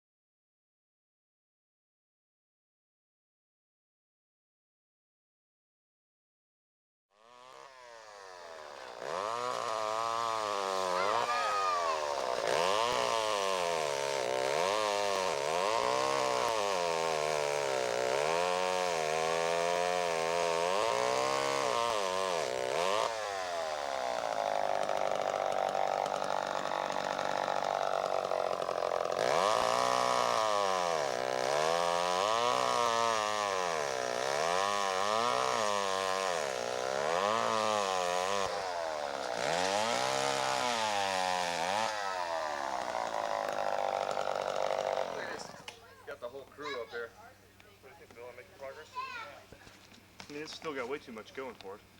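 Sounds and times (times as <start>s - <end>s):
chainsaw cutting tree trunk: 7.2s - 46.8s, 48.0s - 51.8s.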